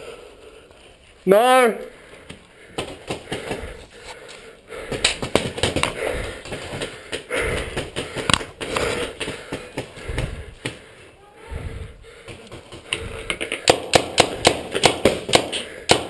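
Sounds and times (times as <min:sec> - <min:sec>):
person breathing heavily: 0:00.0 - 0:01.2, 0:01.9 - 0:16.0.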